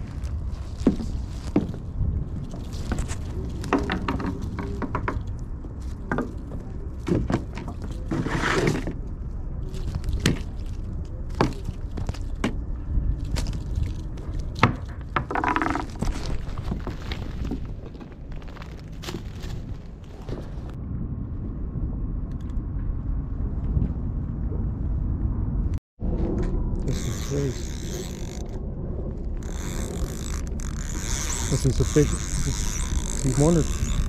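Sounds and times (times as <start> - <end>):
wind rumble on microphone: 0.0 - 34.0.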